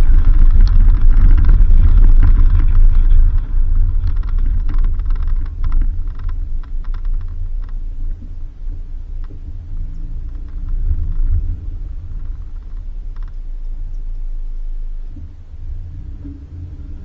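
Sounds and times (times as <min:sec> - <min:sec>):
gravel and loose parts rattling: 0:00.0 - 0:17.0
vehicle rumbling on dirt road: 0:00.0 - 0:17.0.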